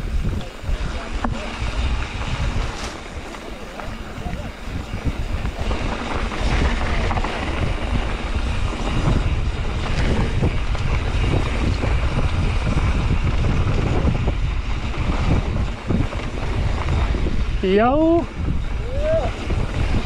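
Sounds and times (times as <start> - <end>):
mountain bike rattling over dirt: 0.0 - 20.0
wind buffeting microphone: 0.0 - 20.0.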